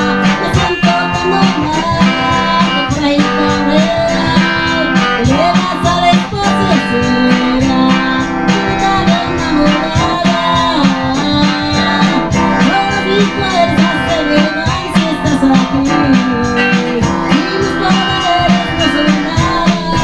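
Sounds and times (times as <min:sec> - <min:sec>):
guitar strumming: 0:00.0 - 0:20.0
woman singing: 0:00.0 - 0:20.0.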